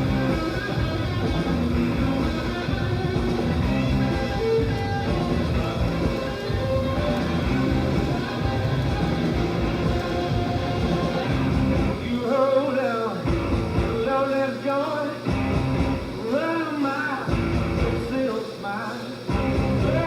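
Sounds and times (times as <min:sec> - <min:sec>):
rock music with sung vocal: 0:00.0 - 0:20.0.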